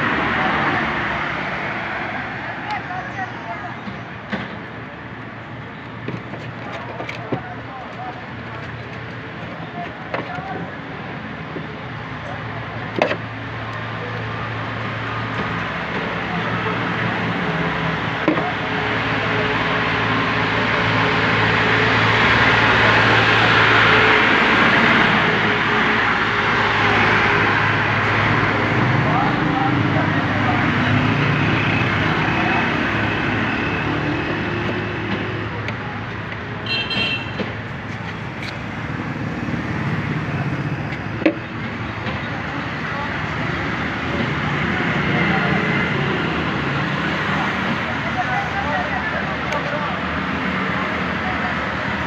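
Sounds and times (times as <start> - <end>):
road traffic din: 0.0 - 52.0.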